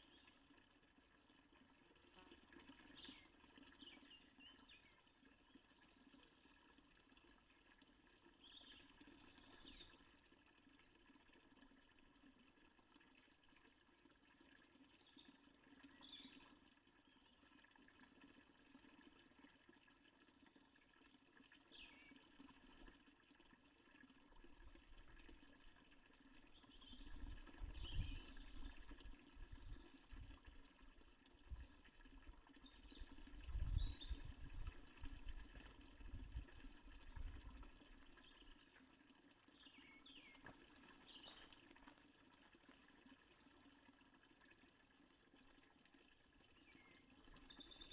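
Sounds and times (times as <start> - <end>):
fountain water running: 0.0 - 47.9.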